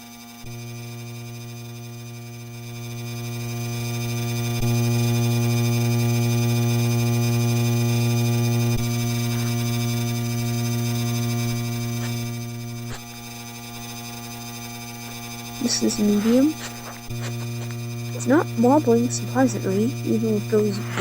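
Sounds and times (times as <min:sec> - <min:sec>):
ceiling fan motor humming: 0:00.9 - 0:21.0.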